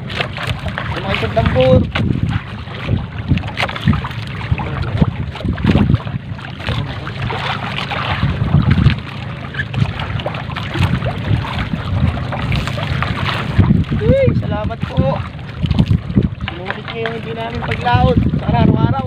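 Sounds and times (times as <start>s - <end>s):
low boat rumble: 0.0s - 19.0s
net hauled over boat side: 0.0s - 19.0s
water splashing and dripping: 0.0s - 19.0s
wind on microphone: 0.0s - 19.0s.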